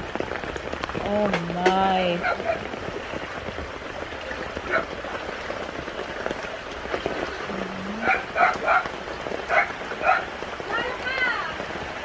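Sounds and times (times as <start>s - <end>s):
rain falling on water: 0.0s - 12.0s.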